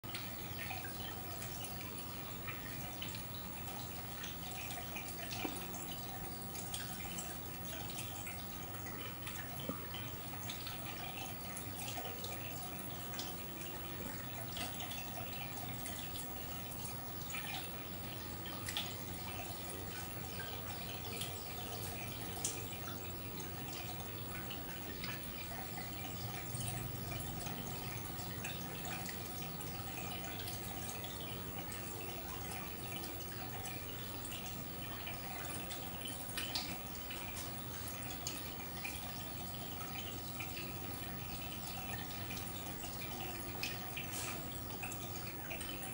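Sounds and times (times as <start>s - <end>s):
faint steady hum: 0.0s - 45.9s
water trickling and dripping: 0.0s - 45.9s.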